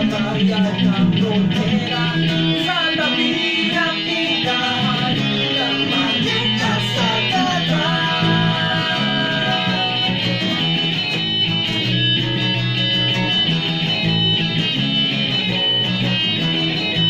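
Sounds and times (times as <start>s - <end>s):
acoustic guitar: 0.0s - 17.0s
electric bass sustained low notes: 0.0s - 17.0s
electric guitar: 0.0s - 17.0s.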